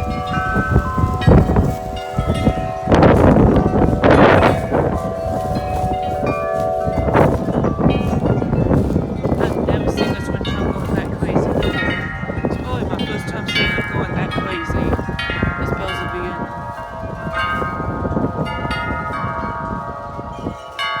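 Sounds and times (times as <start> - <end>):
wind buffeting microphone: 0.0 - 21.0
wind chimes ringing: 0.0 - 21.0.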